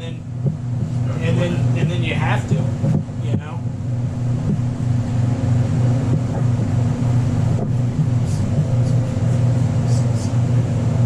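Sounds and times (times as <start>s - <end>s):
motor droning: 0.0s - 11.0s.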